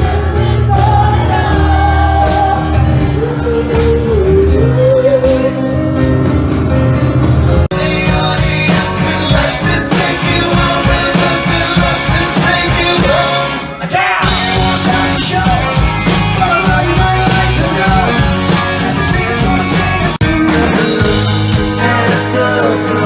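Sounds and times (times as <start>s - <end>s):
rock song with singing: 0.0s - 6.2s, 7.7s - 23.0s.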